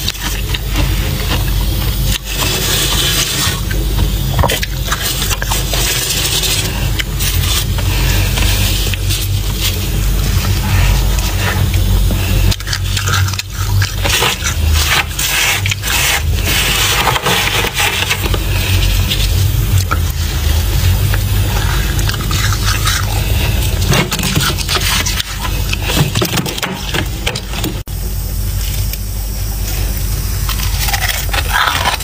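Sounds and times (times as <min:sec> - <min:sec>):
low hum: 0:00.0 - 0:32.0
crackly scraping of frost: 0:00.1 - 0:26.9.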